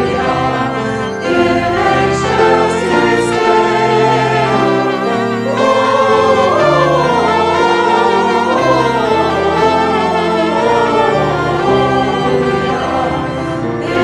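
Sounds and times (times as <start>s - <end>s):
choir singing with instruments: 0.0s - 14.0s.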